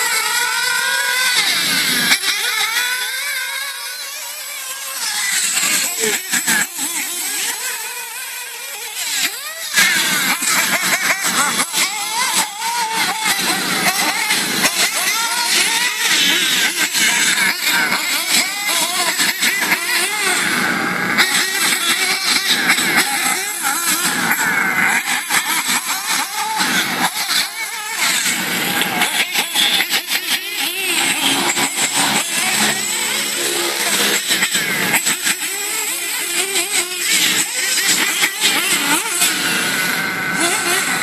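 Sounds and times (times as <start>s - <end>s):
rc car motors whining: 0.0s - 41.0s.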